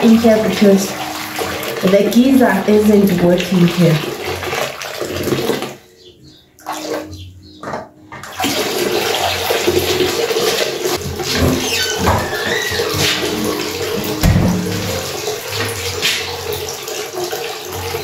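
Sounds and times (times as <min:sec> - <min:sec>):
steady water stream: 0:00.0 - 0:05.8, 0:08.3 - 0:18.0
water splashes: 0:00.0 - 0:05.8, 0:08.2 - 0:18.0.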